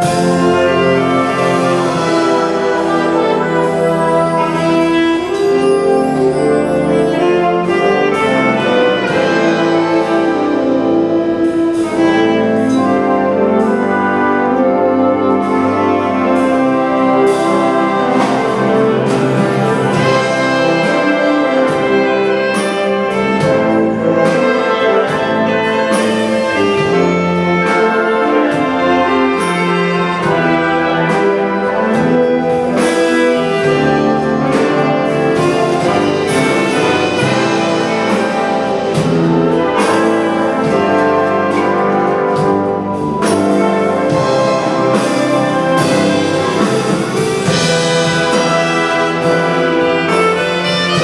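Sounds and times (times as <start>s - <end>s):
percussion strokes: 0.0s - 51.0s
wind band playing chords: 0.0s - 51.0s.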